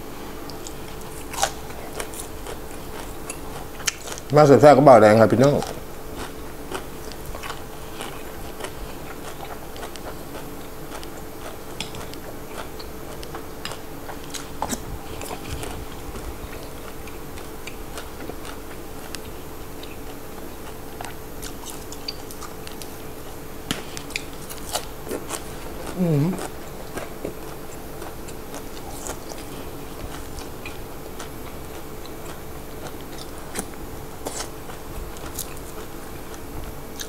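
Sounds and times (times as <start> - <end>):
faint steady hum: 0.0 - 37.0
person chewing food: 0.4 - 4.3, 5.4 - 37.0
small crunches and mouth clicks: 0.4 - 4.4, 5.4 - 37.0.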